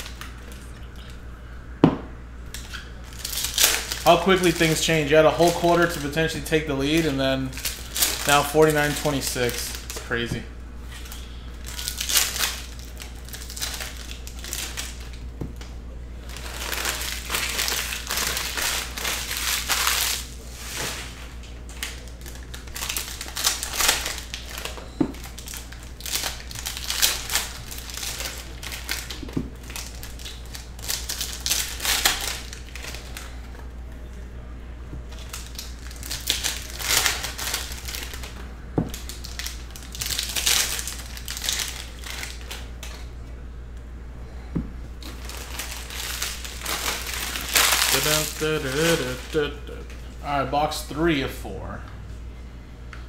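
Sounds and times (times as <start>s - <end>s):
steady low hum: 0.0s - 53.0s
foil packs crinkling and tearing: 2.5s - 10.3s, 10.9s - 33.5s, 35.1s - 43.0s, 45.0s - 51.2s.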